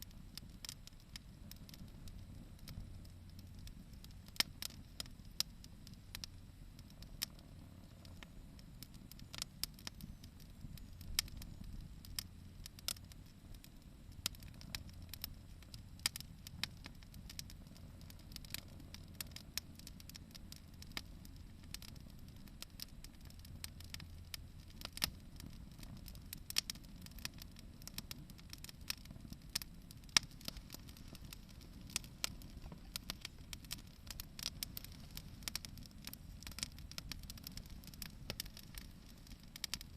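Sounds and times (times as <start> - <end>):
bonfire crackling and popping: 0.0 - 39.9
low fire rumble: 0.0 - 39.9.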